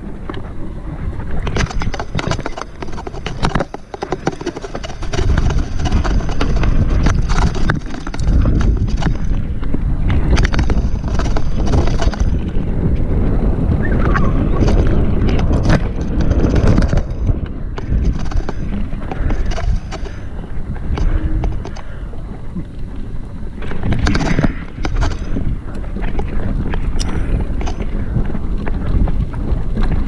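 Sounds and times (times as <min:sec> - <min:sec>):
bike tyres rumbling over dirt: 0:00.0 - 0:30.0
wind on microphone: 0:00.0 - 0:30.0
bike knocking and rattling: 0:01.2 - 0:22.8, 0:23.5 - 0:30.0.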